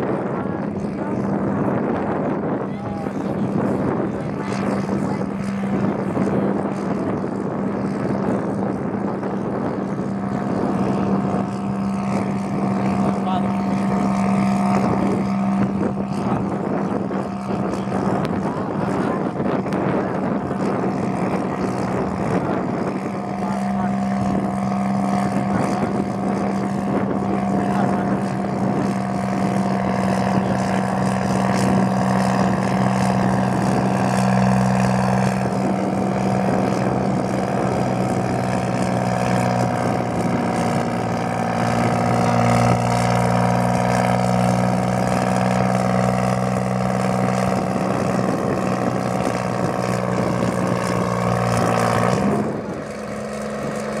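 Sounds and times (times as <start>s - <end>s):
diesel engine labouring: 0.0s - 54.0s.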